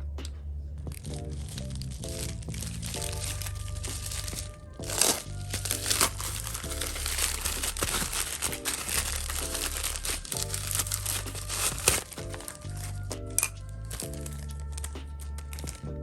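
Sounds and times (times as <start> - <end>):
background music with low beat: 0.0 - 16.0
packaging crinkling and rustling: 0.9 - 16.0.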